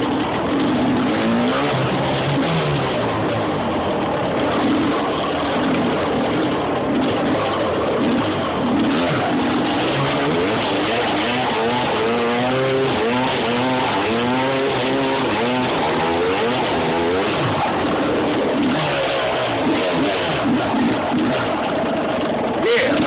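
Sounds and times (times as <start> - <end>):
steady rush of noise: 0.0 - 23.0
vehicle engine revving: 0.0 - 23.0.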